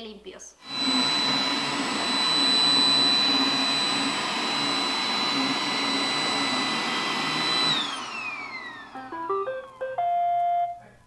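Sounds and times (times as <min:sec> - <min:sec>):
high motor whine: 0:00.6 - 0:09.8
robot vacuum running on carpet: 0:00.6 - 0:09.8.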